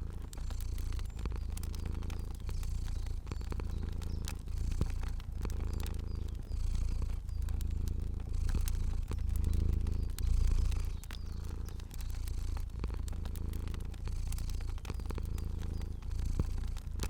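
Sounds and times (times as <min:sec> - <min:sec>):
cat purring: 0:00.0 - 0:17.0
fire crackling: 0:00.0 - 0:17.0.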